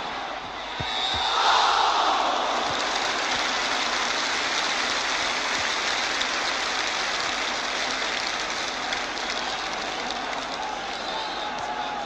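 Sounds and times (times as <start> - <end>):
large stadium crowd noise: 0.0 - 12.0.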